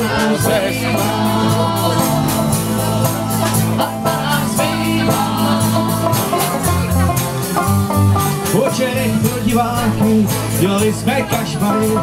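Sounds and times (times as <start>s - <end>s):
banjo: 0.0s - 12.0s
strummed acoustic guitars: 0.0s - 12.0s
upright double bass: 0.0s - 12.0s.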